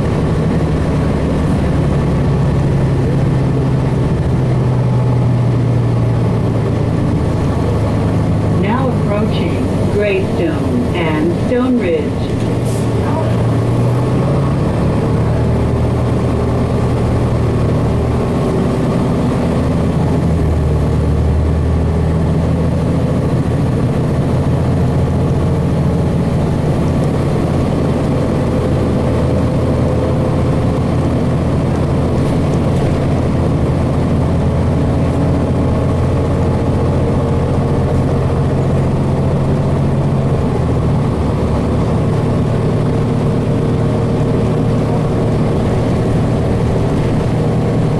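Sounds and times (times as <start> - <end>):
diesel bus engine drone: 0.0 - 47.9.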